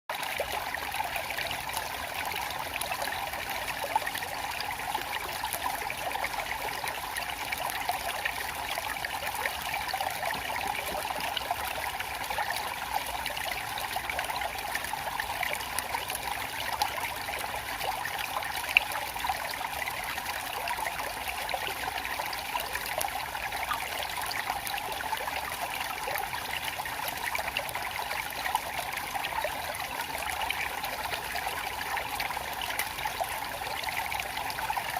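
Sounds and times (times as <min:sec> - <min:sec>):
stream flowing over stones: 0:00.1 - 0:34.9.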